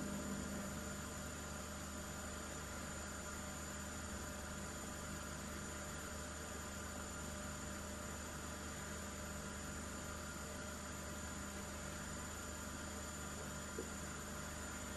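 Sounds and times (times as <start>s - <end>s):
electrical hum and hiss: 0.0s - 14.9s.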